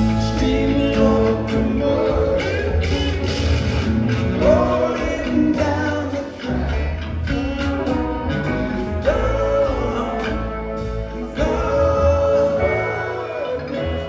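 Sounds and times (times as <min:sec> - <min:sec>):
live rock band: 0:00.0 - 0:14.0
person singing: 0:00.0 - 0:14.0.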